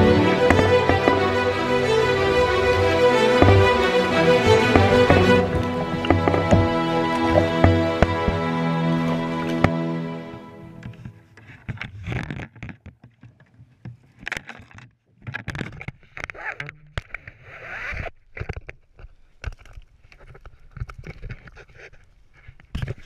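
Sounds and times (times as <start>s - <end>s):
gear knocking and scraping on kayak: 0.0s - 23.0s.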